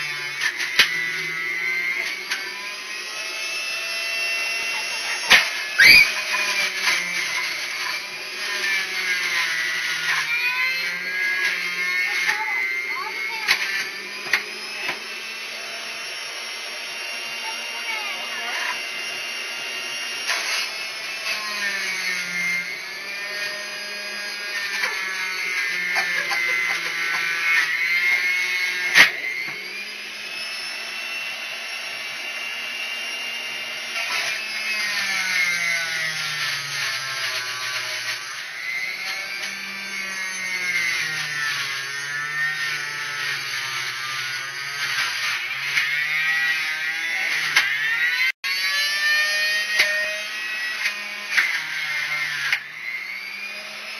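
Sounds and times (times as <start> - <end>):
small electric motor running: 0.0 - 53.9.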